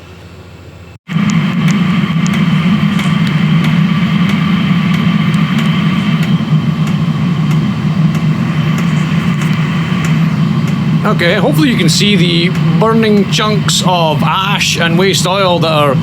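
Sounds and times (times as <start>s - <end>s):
heater burner and fan running: 0.0s - 16.0s.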